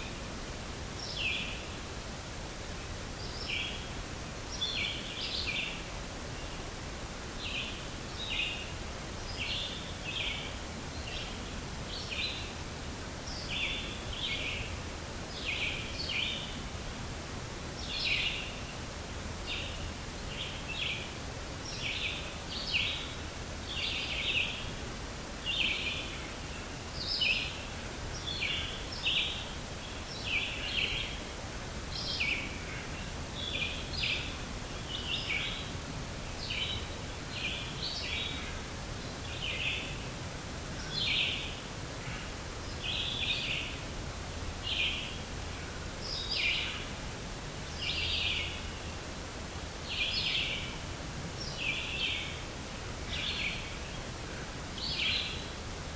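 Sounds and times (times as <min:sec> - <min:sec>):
outdoor background hiss: 0:00.0 - 0:55.9.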